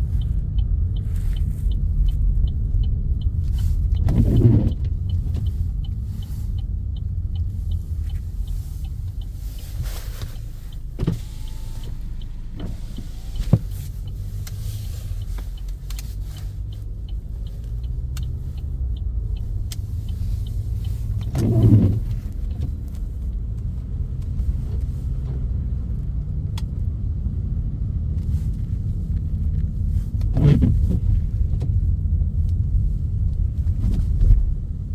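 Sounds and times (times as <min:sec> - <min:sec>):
car interior road rumble: 0:00.0 - 0:34.9.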